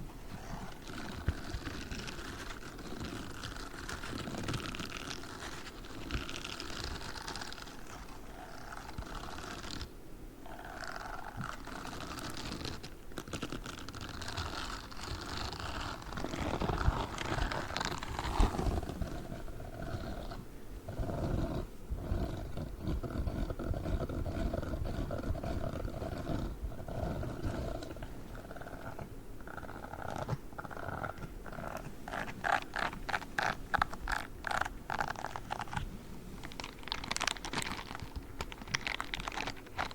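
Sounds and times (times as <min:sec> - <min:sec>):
gloves scratching microphone: 0:00.0 - 0:10.0, 0:10.6 - 0:39.9.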